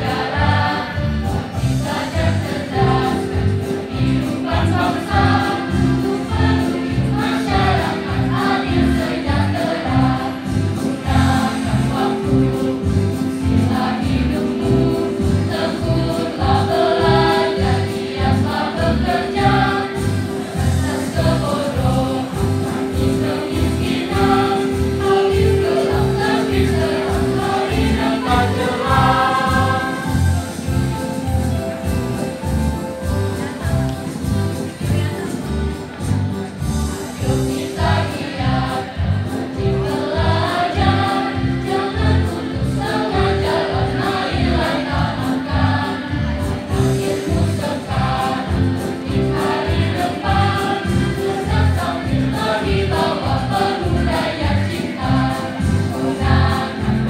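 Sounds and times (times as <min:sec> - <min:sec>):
choir singing: 0:00.0 - 0:32.6, 0:37.0 - 0:57.0
electronic keyboard: 0:00.0 - 0:57.0.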